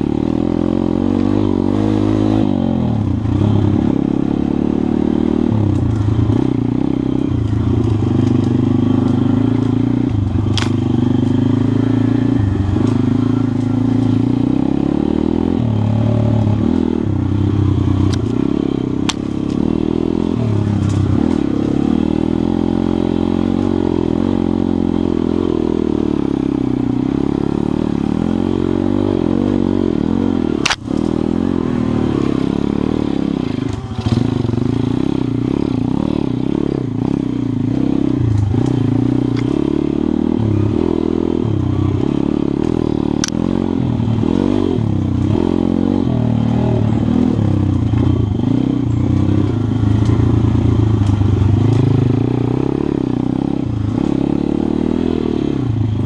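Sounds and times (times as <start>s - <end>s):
single-cylinder engine revving: 0.0s - 56.0s.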